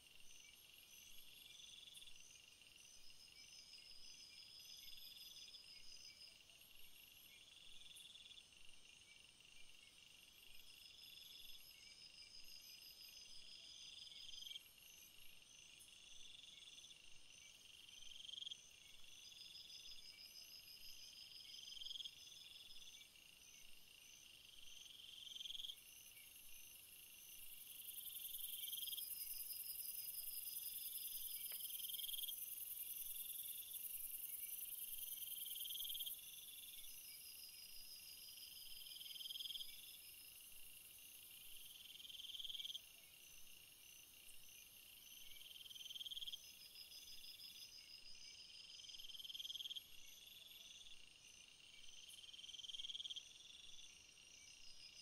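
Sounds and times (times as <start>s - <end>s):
crickets chirping in trills: 0.0s - 55.0s
high insect hiss: 10.3s - 55.0s.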